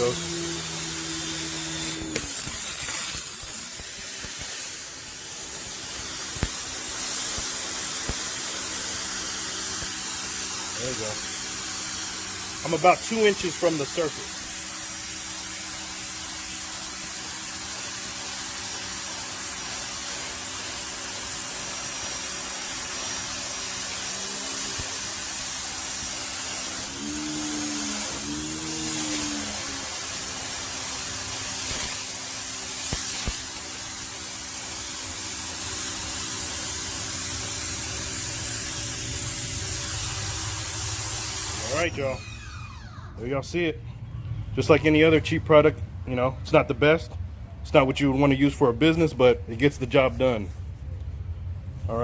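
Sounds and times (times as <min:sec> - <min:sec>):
water jet spraying on concrete: 0:00.0 - 0:42.0
pressure washer pump motor hum: 0:00.0 - 0:43.2.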